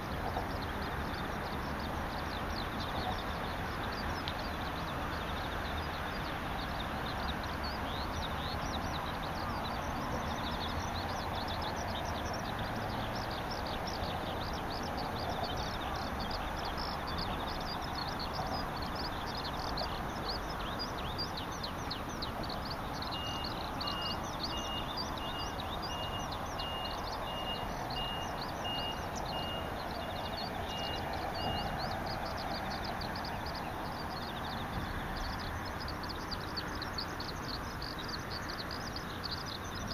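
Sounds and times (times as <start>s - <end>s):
birds and insects chirping: 0.0s - 39.9s.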